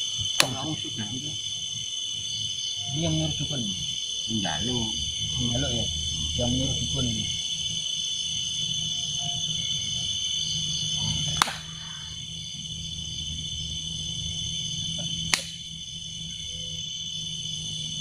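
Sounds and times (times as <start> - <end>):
low hum: 0.0 - 18.0
night insects chorus: 0.0 - 18.0.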